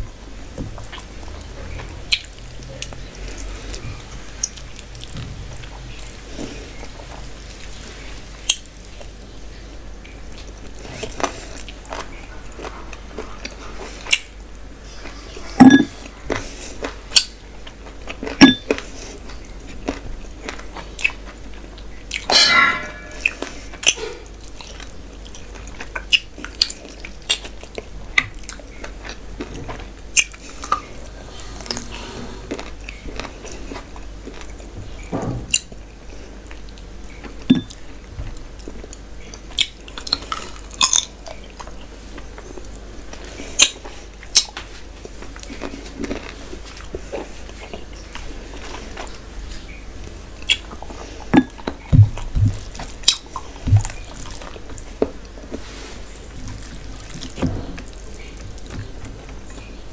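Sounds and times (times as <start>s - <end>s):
person chewing food: 0.4s - 9.2s, 10.0s - 22.3s, 23.0s - 59.7s.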